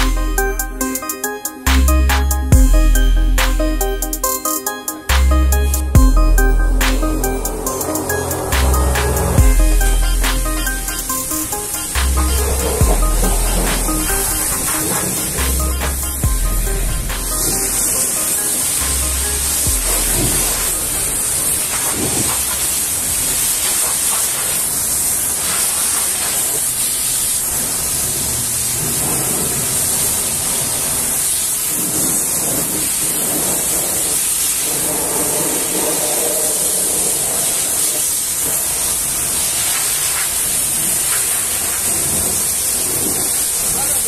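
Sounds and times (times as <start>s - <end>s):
pressure washer spraying water: 0.1s - 44.0s.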